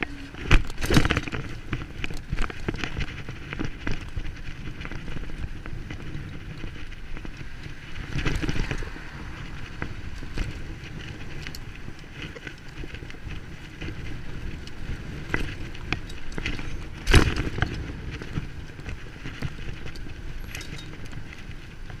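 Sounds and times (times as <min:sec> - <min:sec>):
bicycle clicks and rattles: 0:00.0 - 0:22.0
bicycle tyres rumbling: 0:00.0 - 0:22.0.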